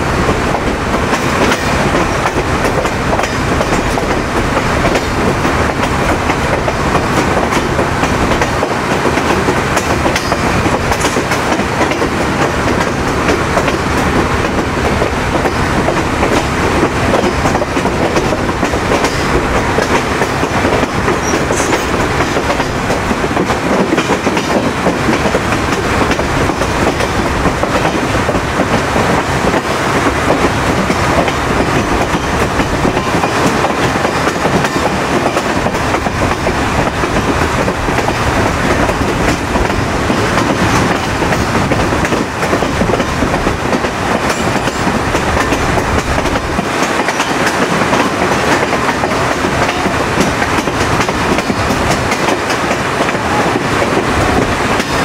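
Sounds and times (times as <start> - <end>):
train wheels rumbling on rails: 0.0 - 55.0
wheels clicking over rail joints: 0.5 - 29.7, 30.3 - 55.0.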